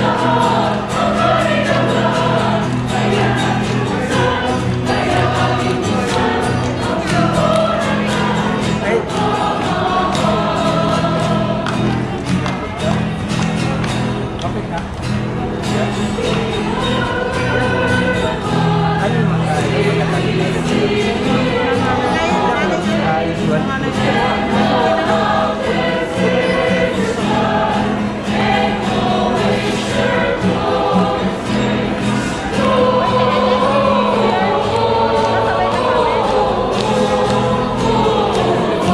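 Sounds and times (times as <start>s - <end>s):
choir singing: 0.0s - 12.3s, 15.7s - 38.9s
low accompanying notes: 0.0s - 38.9s.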